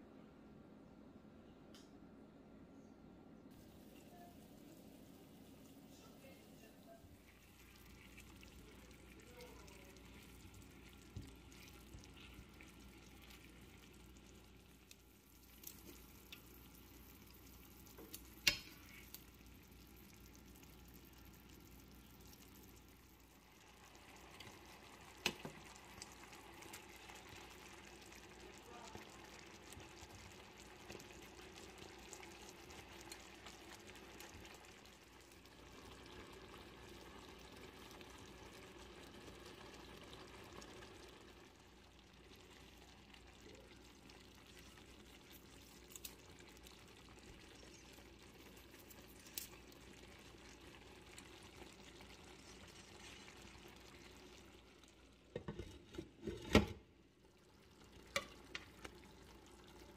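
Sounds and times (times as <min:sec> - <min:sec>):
fish simmering in a frying pan: 0:03.6 - 0:59.9.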